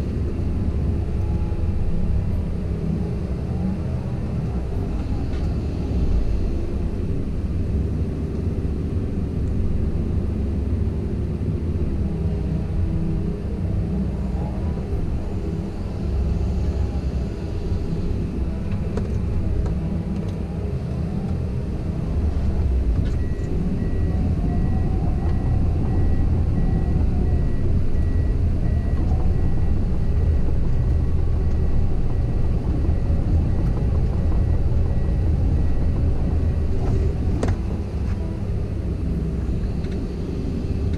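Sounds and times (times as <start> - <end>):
excavator diesel engine rumbling: 0.0 - 40.9.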